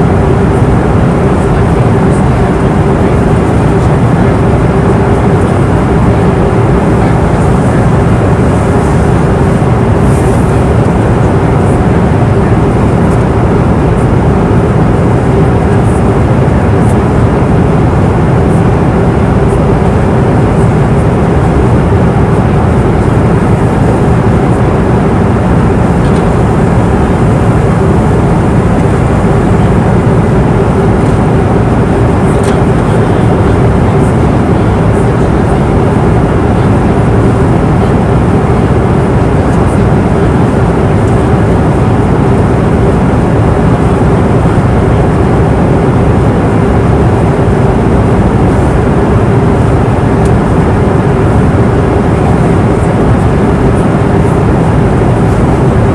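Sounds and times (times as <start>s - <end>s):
airliner cabin roar: 0.0s - 55.9s
faint steady hum: 0.0s - 55.9s.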